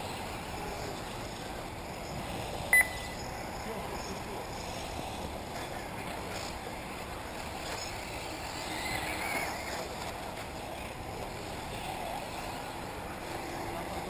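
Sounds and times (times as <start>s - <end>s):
faint motor whine: 0.0s - 14.0s
rc buggies running: 0.0s - 14.0s.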